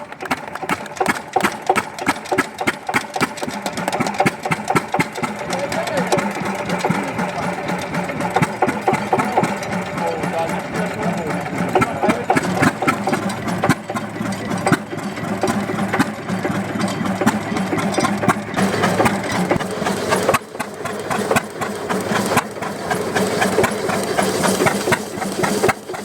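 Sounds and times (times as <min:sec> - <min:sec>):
stationary engine clattering: 0:00.0 - 0:26.0.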